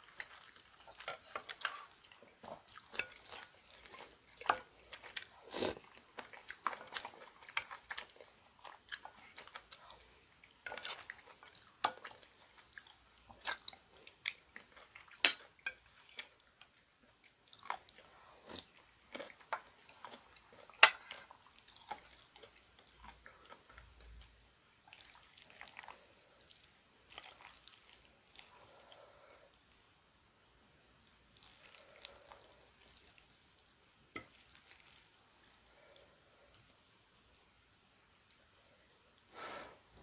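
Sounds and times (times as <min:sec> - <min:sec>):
chewing: 0:00.0 - 0:29.7, 0:31.4 - 0:39.3.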